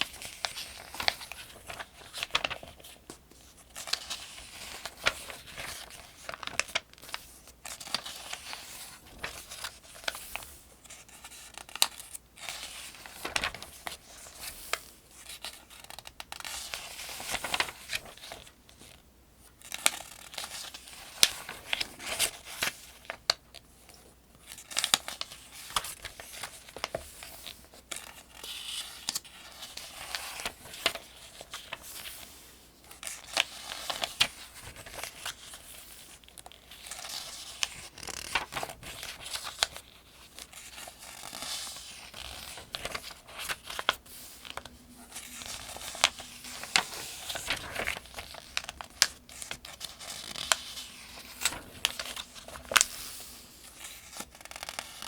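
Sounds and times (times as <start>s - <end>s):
pages turning: 0.0s - 19.0s, 19.7s - 23.6s, 24.5s - 55.0s.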